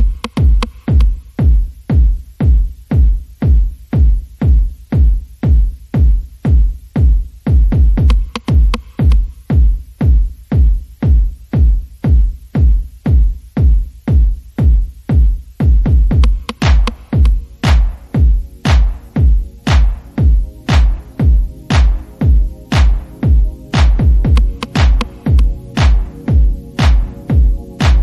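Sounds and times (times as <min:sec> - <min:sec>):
electronic dance music: 0:00.0 - 0:28.0
heavy kick drum: 0:00.0 - 0:28.0.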